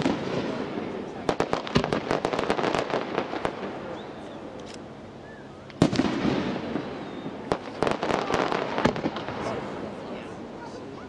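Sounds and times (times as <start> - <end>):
firework bursts: 0.0 - 4.9, 5.6 - 10.9.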